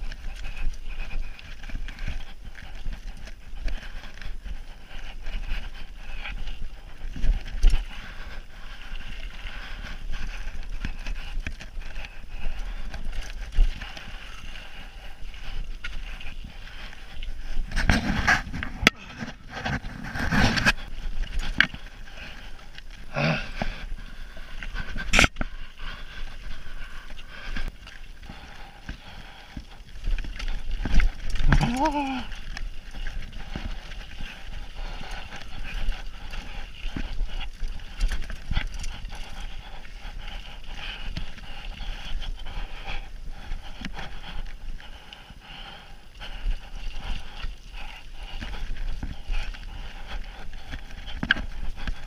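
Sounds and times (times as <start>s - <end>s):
bike rattling over bumps: 0.0s - 52.0s
bike tyres rolling over dirt: 0.0s - 52.0s.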